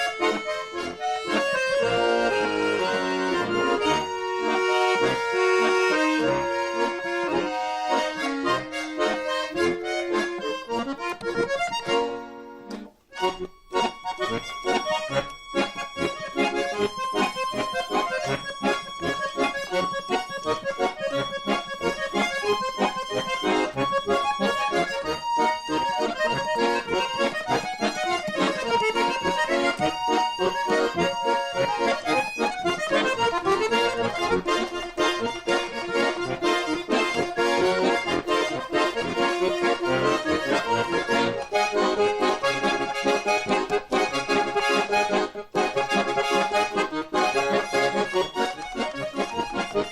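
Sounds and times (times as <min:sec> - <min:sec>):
button accordion folk tune: 0:00.0 - 0:49.9.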